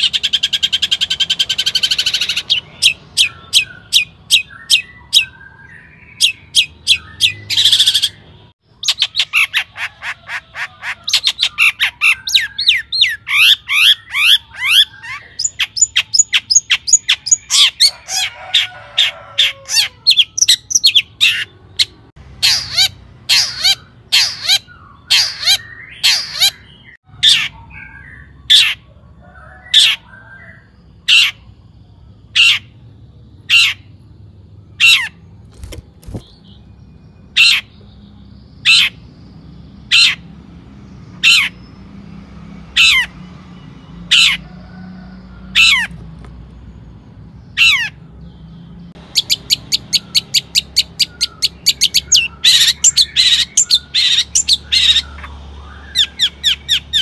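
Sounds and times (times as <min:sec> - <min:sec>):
shrike calling: 0:00.0 - 0:31.6, 0:38.5 - 0:39.2, 0:42.7 - 0:46.0, 0:46.8 - 0:57.0.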